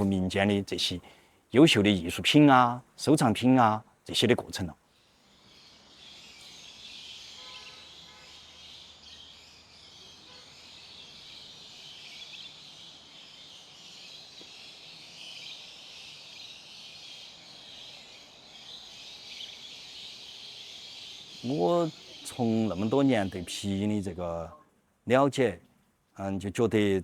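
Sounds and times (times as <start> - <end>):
high-pitched chirping chorus: 0.0 - 24.7.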